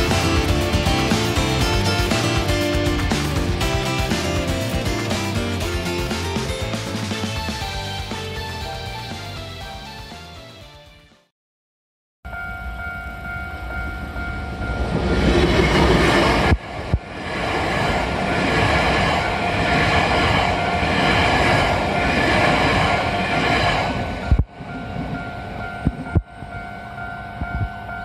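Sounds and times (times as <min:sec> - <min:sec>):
train passing: 0:00.0 - 0:10.8, 0:12.3 - 0:28.0.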